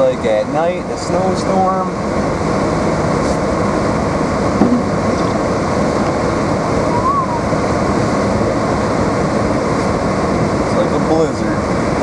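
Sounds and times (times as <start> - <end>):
road and engine noise: 0.0 - 12.0
car heater blower: 1.1 - 12.0.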